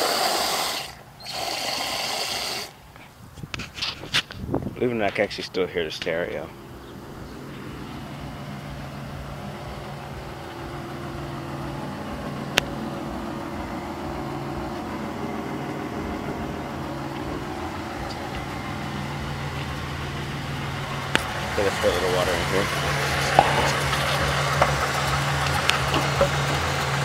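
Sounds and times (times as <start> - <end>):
car engine idling: 4.2 - 27.0.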